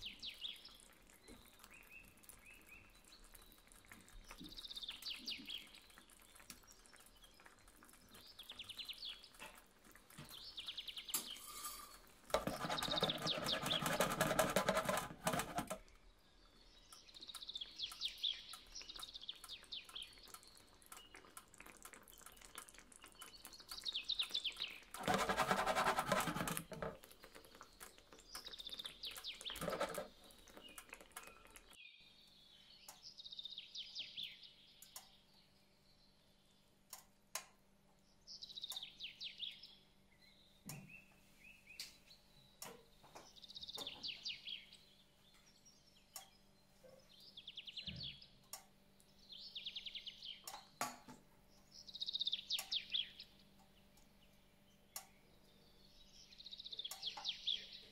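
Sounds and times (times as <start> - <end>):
small bird chirping: 0.0 - 37.1, 38.2 - 57.9.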